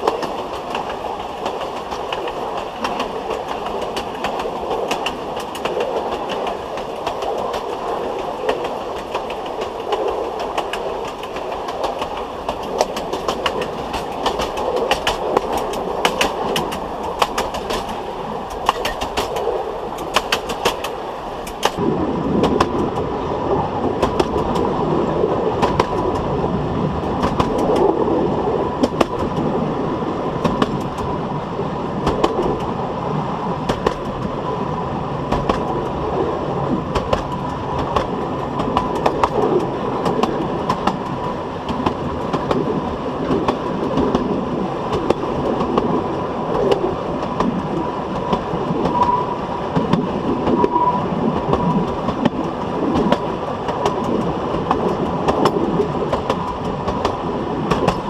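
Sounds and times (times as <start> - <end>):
train wheels rumbling on track: 0.0 - 58.0
wheels clicking over rail joints: 0.0 - 58.0.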